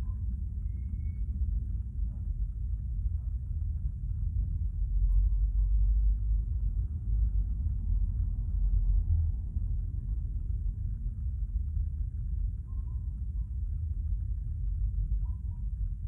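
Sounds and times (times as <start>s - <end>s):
low rumble inside car cabin: 0.0s - 16.0s.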